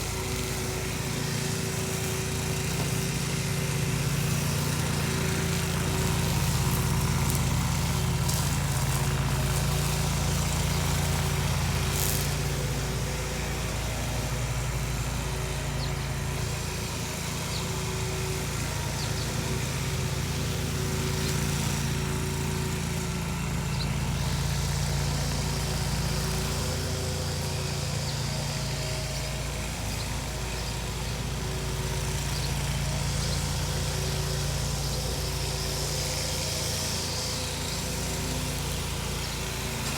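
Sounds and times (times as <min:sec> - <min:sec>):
mower cutting deck noise: 0:00.0 - 0:39.9
riding lawn mower engine: 0:00.0 - 0:39.9.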